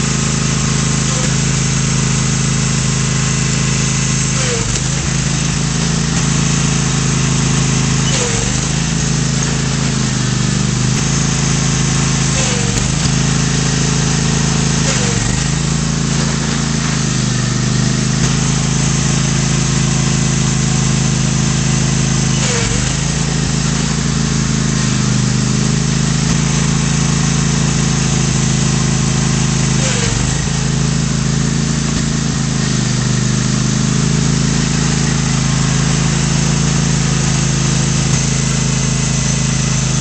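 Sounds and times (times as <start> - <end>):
lawn tractor engine running: 0.0 - 40.0.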